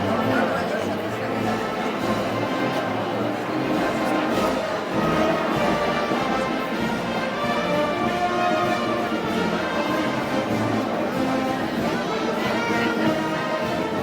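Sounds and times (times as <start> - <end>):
brass wind band playing: 0.0 - 14.0.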